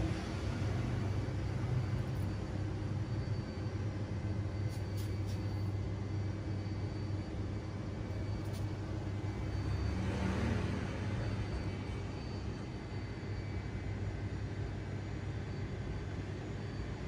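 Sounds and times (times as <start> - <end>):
low urban rumble: 0.0 - 17.0.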